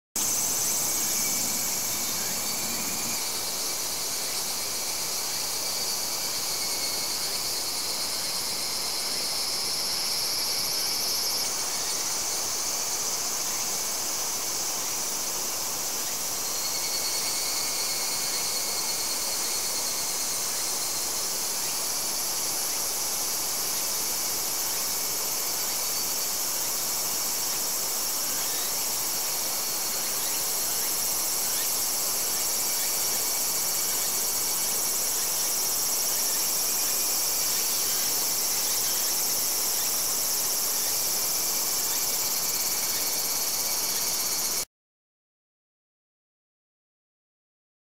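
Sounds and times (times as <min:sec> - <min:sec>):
insects chirring: 0:00.2 - 0:44.6.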